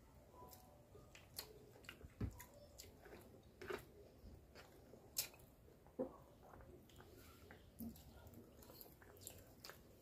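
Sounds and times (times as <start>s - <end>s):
chewing soft food: 0.4s - 10.0s.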